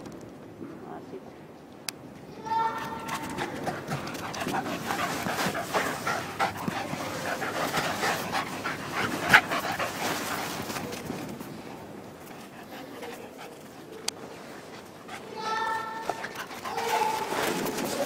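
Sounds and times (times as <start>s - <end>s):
dogs panting: 3.0s - 18.0s.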